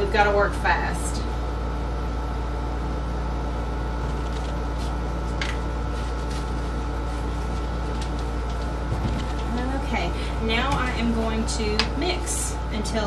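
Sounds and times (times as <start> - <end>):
mechanical hum of equipment: 0.0 - 13.0.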